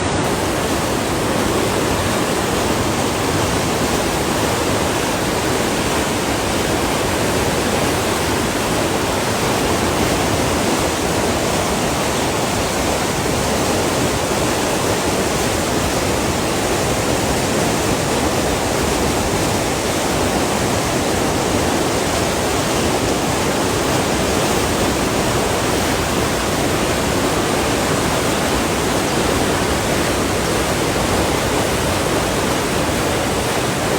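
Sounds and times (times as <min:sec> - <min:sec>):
river rushing: 0:00.0 - 0:33.9.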